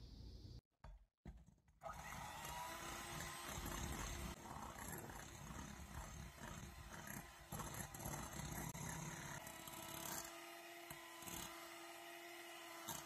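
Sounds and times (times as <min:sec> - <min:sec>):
electric hand mixer whipping: 0:01.8 - 0:13.0.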